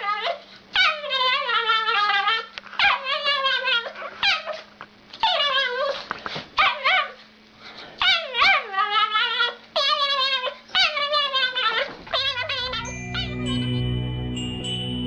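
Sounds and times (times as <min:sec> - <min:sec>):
dog whining: 0:00.0 - 0:07.2, 0:08.0 - 0:13.8.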